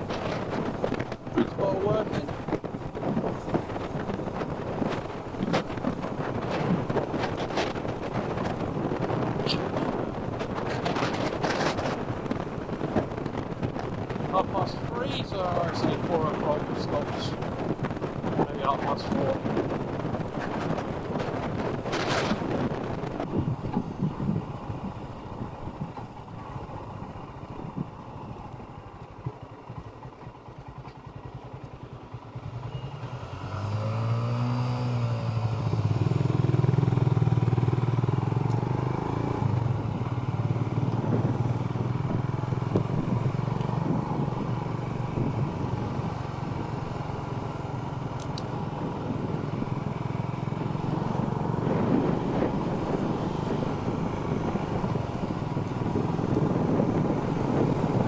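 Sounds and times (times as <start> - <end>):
wind noise: 0.0 - 30.0, 32.2 - 58.0
motorcycle engine running: 0.0 - 58.0.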